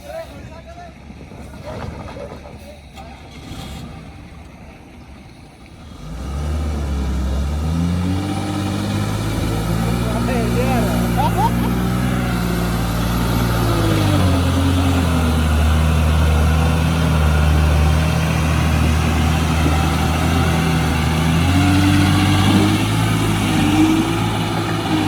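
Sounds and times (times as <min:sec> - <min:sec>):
truck diesel engine running: 0:00.0 - 0:25.0
high engine whine: 0:03.2 - 0:25.0.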